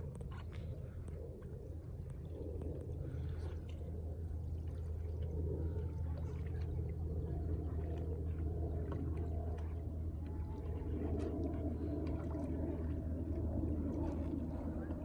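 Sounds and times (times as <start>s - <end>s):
low rumble: 0.0s - 15.0s
water lapping and sloshing: 0.0s - 15.0s.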